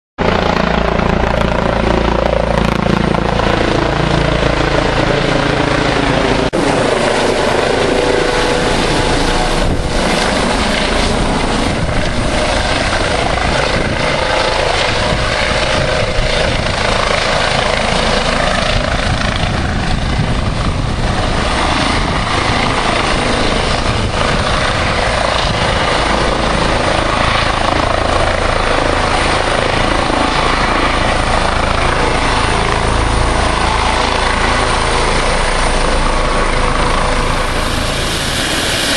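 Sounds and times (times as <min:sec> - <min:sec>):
helicopter rotor and engine roar: 0:00.2 - 0:38.9.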